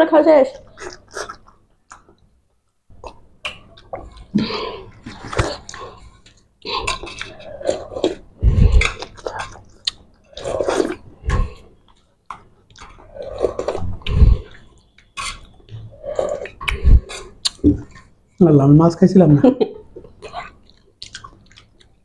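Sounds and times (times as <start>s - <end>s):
chewing: 0.6s - 2.3s, 3.0s - 18.1s, 20.0s - 22.0s.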